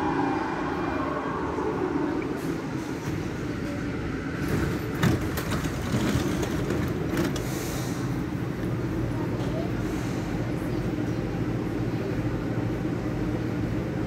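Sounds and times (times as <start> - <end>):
train low hum: 0.0 - 14.0.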